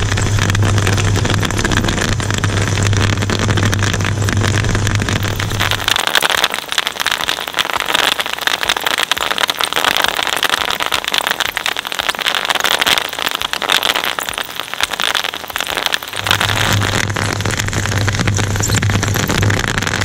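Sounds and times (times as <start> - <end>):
bubble wrap popping: 0.0 - 20.0
shredder tearing plastic sheet: 0.0 - 20.0.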